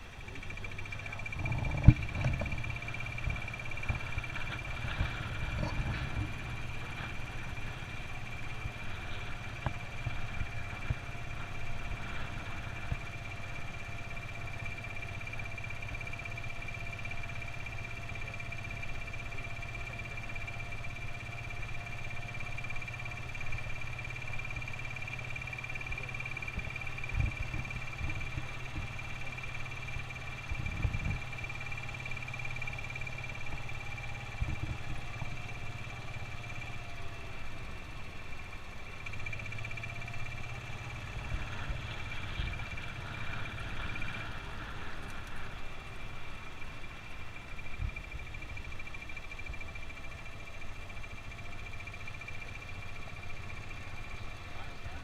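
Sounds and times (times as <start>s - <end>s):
steady high whine: 0.0s - 55.0s
truck engine idling: 0.0s - 55.0s.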